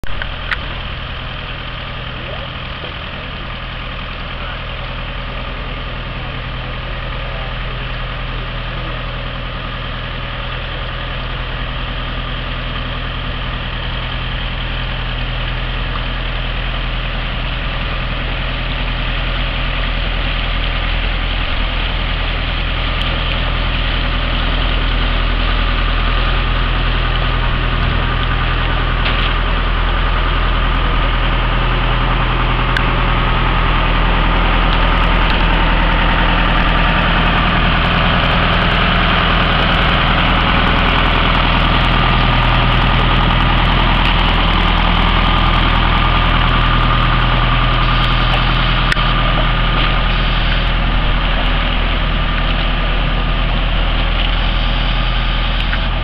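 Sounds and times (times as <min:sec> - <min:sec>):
tug engine running: 0:00.0 - 0:56.0.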